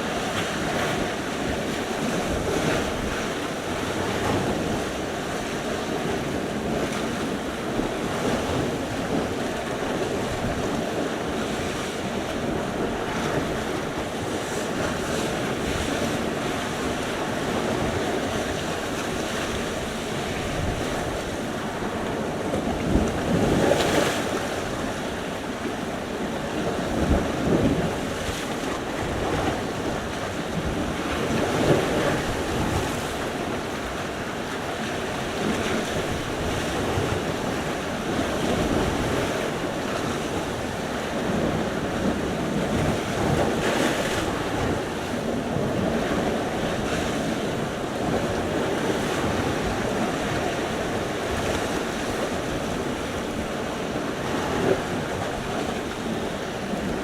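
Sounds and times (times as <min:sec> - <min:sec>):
waves washing in: 0:00.0 - 0:57.0.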